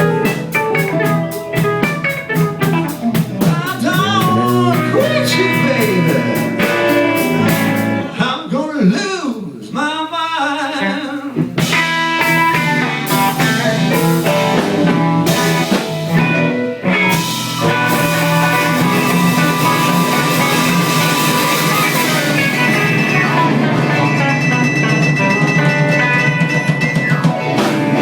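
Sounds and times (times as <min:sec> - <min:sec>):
blues band playing: 0:00.0 - 0:08.4, 0:10.5 - 0:28.0.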